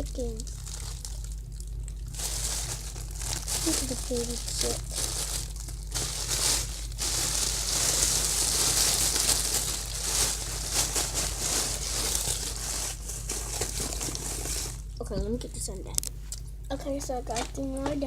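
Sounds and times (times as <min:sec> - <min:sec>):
plastic wrapping crinkling: 0:00.0 - 0:15.1.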